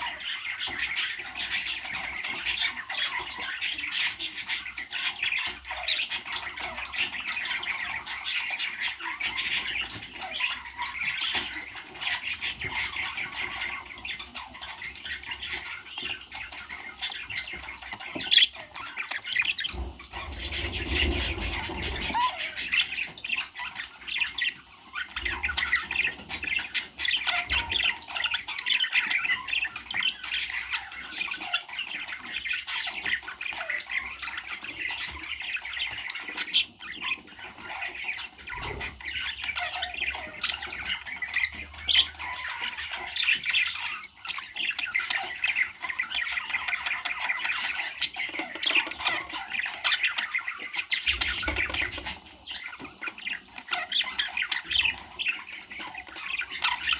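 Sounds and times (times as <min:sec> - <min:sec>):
parrots squawking and chattering: 0:00.0 - 0:56.9.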